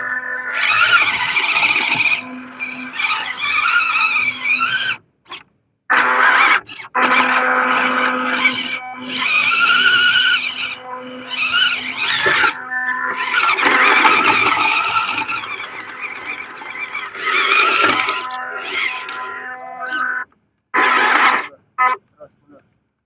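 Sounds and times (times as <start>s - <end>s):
toy truck electric motor whining: 0.0s - 21.5s.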